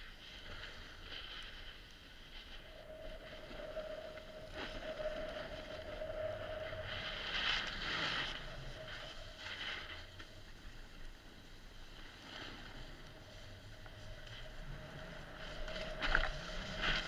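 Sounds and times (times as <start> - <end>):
snowboard scraping over snow: 0.1 - 17.0.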